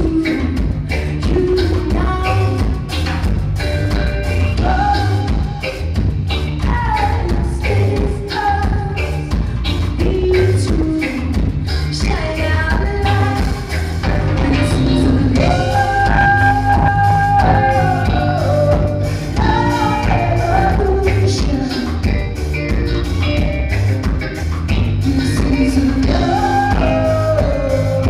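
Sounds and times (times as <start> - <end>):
woman singing lead: 0.0 - 23.9, 24.7 - 28.0
live band playing: 0.0 - 28.0.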